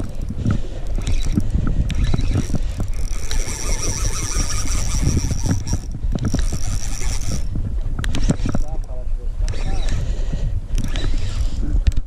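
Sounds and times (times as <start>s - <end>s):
fishing reel gears whirring: 0.0s - 11.7s.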